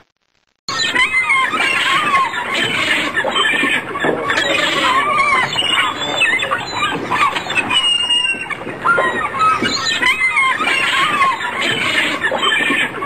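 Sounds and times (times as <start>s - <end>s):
gulls calling: 0.7s - 13.0s
sea noise: 0.7s - 13.0s
wind: 0.7s - 13.0s.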